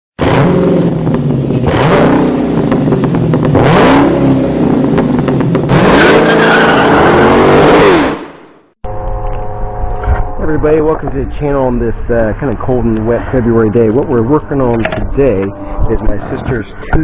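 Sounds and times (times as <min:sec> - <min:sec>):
car engine revving: 0:00.2 - 0:16.9.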